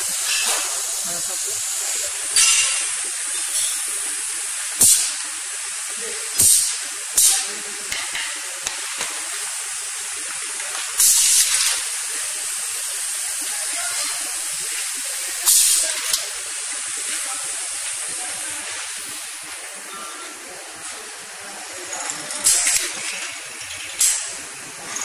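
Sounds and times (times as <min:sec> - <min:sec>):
steady air hiss: 0:00.0 - 0:23.0
solenoid valves venting air: 0:00.0 - 0:25.0.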